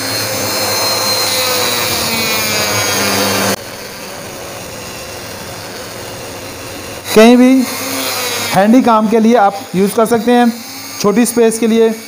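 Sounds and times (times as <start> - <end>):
rotary tool grinding wood: 0.0 - 12.0.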